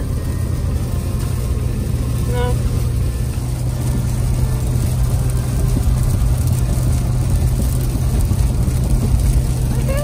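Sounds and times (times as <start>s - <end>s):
engine and tyre drone: 0.0s - 10.0s
tyres hissing on wet pavement: 0.0s - 10.0s.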